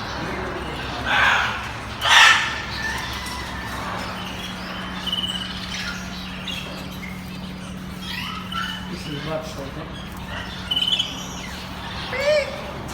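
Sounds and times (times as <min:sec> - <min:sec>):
birds chirping and squawking: 0:00.0 - 0:12.9.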